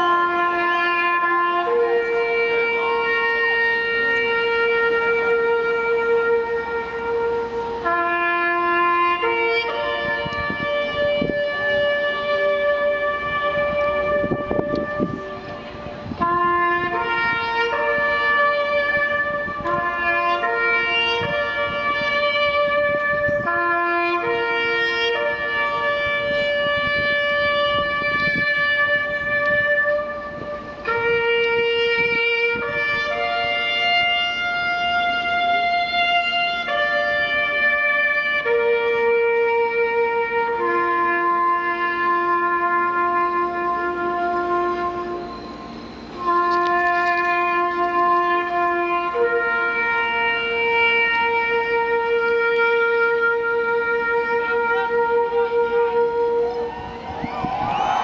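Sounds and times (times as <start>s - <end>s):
slow wind instrument music: 0.0s - 58.0s.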